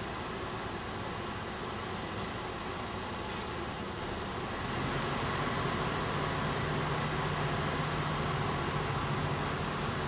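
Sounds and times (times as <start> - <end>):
diesel railcar engine humming: 0.0 - 10.0.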